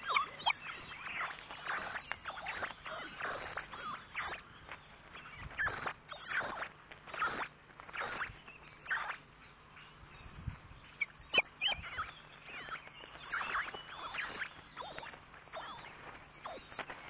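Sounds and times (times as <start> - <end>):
ospreys chirping: 0.0 - 17.0.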